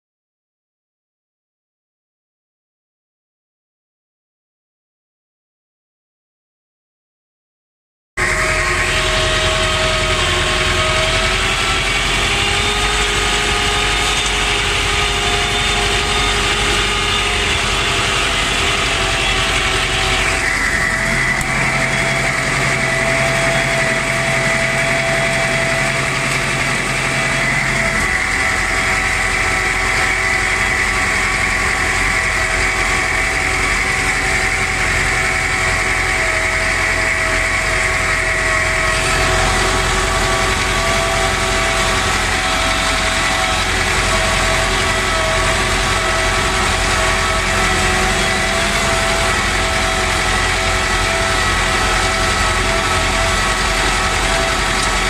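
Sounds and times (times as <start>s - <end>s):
tractor diesel engine running: 8.2s - 55.0s.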